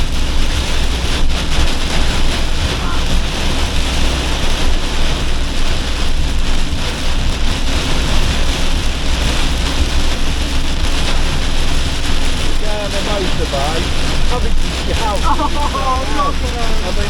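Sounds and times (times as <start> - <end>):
heavy rain on vehicle roof: 0.0 - 17.0
van engine low rumble: 0.0 - 17.0.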